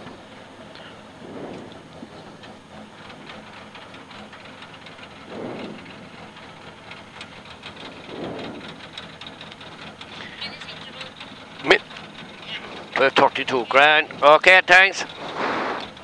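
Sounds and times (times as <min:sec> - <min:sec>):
car engine idling: 0:00.0 - 0:16.0
light rattling ticks: 0:00.0 - 0:16.0.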